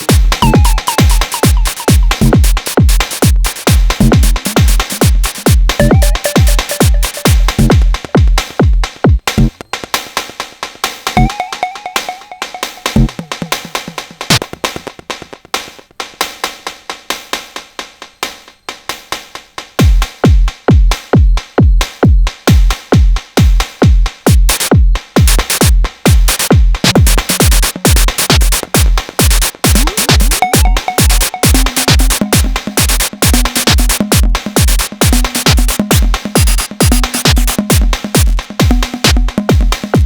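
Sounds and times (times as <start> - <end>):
clicky drum machine percussion: 0.0 - 10.4, 11.1 - 40.0
hi-hats: 0.0 - 11.5, 13.0 - 40.0
punchy kick drum beat: 0.0 - 18.3, 18.9 - 40.0.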